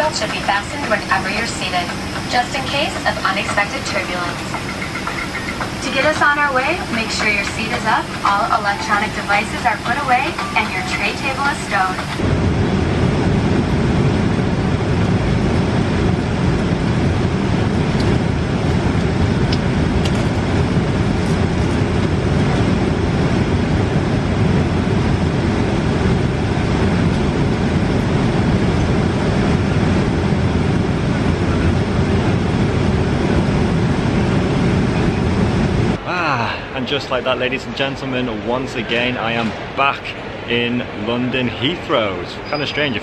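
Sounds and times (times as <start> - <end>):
airliner cabin rumble: 0.0 - 43.0.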